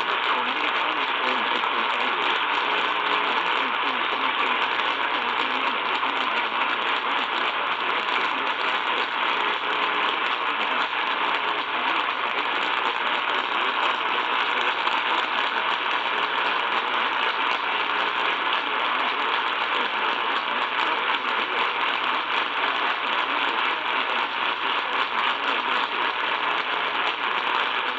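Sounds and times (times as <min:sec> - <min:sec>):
faint radio station audio: 0:00.0 - 0:27.9
radio static hiss and crackle: 0:00.0 - 0:27.9.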